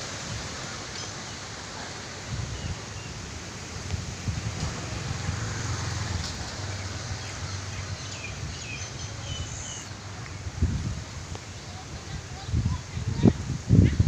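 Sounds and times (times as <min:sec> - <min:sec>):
wind rustling tree leaves: 0:00.0 - 0:14.0
wind buffeting microphone: 0:02.2 - 0:14.0.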